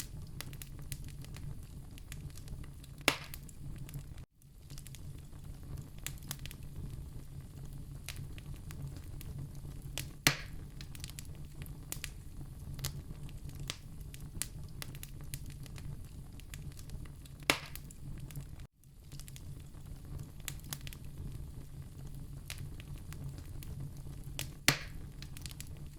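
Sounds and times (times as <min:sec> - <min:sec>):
fire crackling: 0:00.0 - 0:25.9
loud fire pops: 0:00.0 - 0:25.9.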